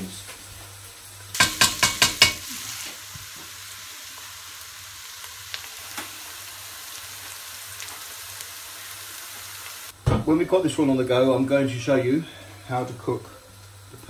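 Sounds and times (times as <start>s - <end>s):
onions sizzling in a pan: 0.0s - 14.0s.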